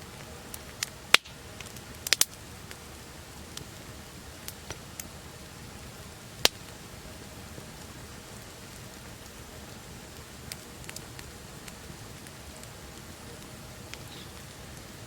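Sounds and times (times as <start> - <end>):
campfire crackling and popping: 0.0 - 15.0
soft hiss: 0.0 - 15.0.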